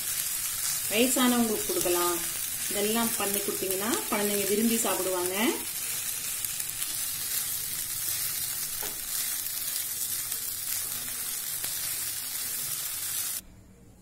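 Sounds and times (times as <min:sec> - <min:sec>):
food sizzling in a pan: 0:00.0 - 0:13.4.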